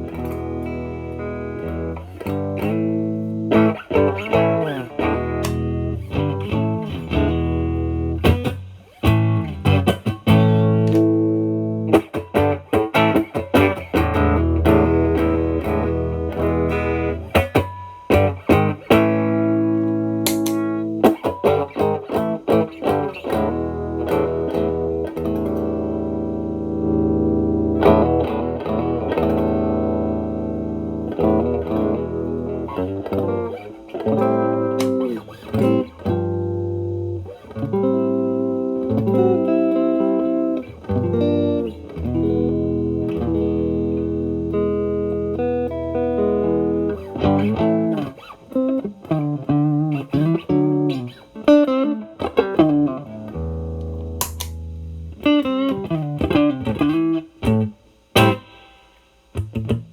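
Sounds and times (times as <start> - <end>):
electric guitar blues notes: 0.0 - 59.9.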